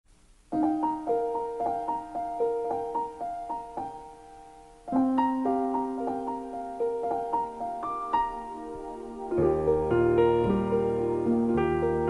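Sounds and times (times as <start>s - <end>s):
piano broken chords: 0.4s - 12.0s.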